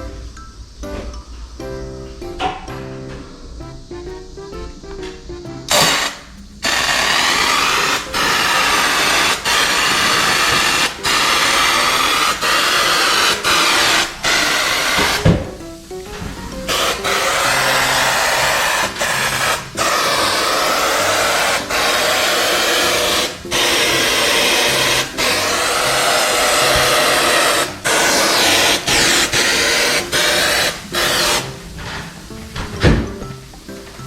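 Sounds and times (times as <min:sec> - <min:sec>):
aerosol spray hissing: 0:03.5 - 0:34.0.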